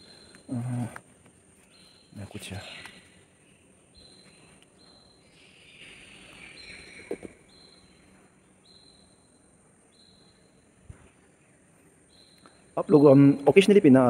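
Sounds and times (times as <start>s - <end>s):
faint high chirp: 1.6s - 13.6s.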